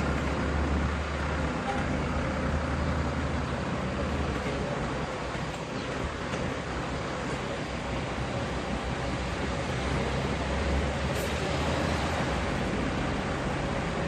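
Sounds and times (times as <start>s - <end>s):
fire truck engine hum: 0.0s - 14.0s
street noise: 0.0s - 14.0s.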